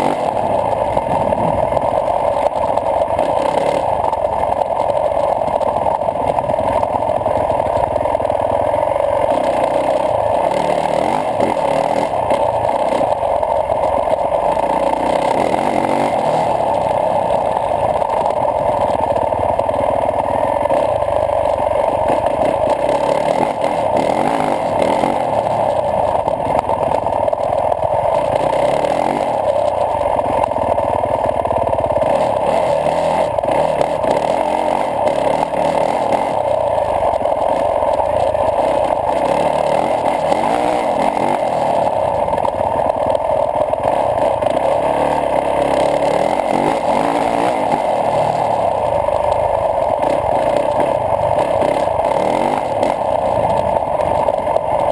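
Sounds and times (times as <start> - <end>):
motocross bike engine running: 0.0 - 54.9.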